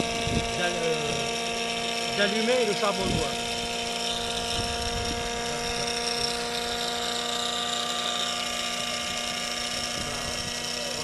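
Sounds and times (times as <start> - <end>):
small electric fan whining: 0.0 - 11.0.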